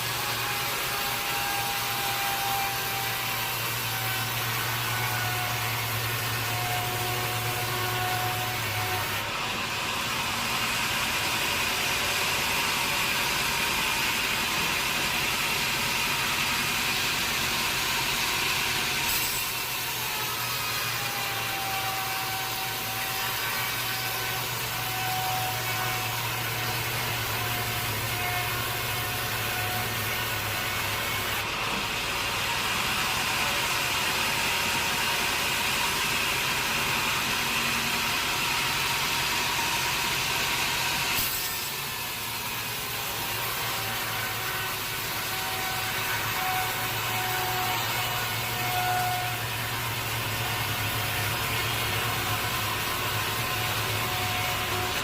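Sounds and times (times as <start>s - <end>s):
high-pitched saw whine: 0.0s - 55.0s
sawmill saw cutting wood: 0.0s - 55.0s.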